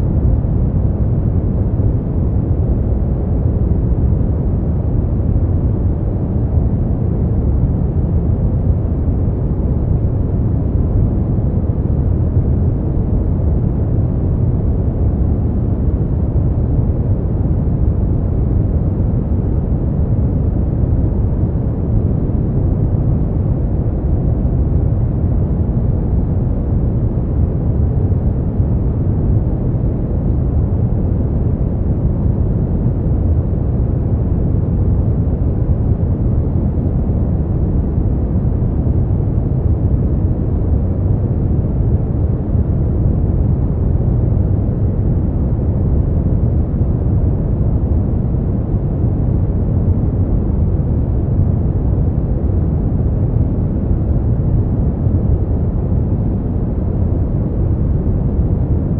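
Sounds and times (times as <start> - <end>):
deep rumbling steady noise: 0.0 - 58.9.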